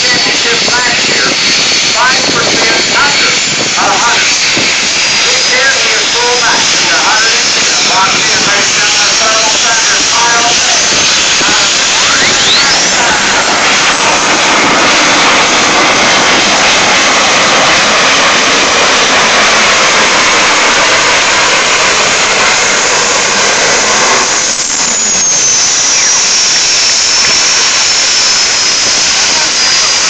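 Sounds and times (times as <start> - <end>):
high whine falling in pitch: 0.0 - 30.0
vehicle engine roaring: 0.0 - 30.0.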